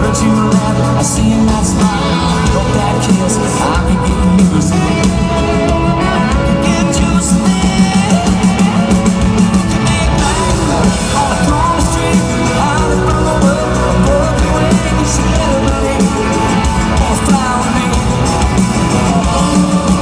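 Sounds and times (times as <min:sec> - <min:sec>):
country-pop band playing: 0:00.0 - 0:20.0
man singing: 0:00.0 - 0:20.0.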